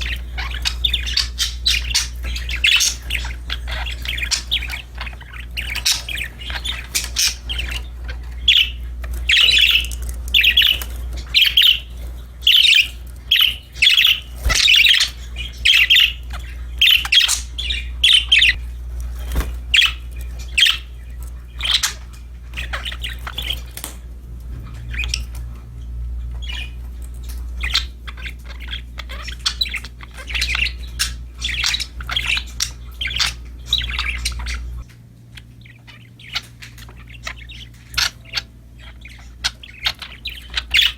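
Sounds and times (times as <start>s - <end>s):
budgerigars chirping and squawking: 0.0s - 40.9s
low hum: 0.0s - 40.9s.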